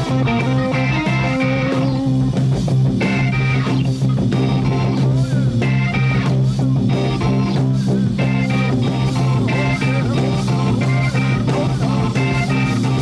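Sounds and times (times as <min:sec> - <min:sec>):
drums: 0:00.0 - 0:13.0
electric guitar repeating phrase: 0:00.0 - 0:13.0
low bass notes: 0:00.0 - 0:13.0.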